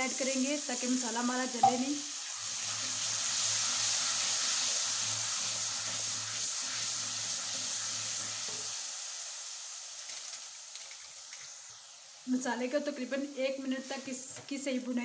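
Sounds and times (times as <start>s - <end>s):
water sizzling in hot oil: 0.0s - 15.0s.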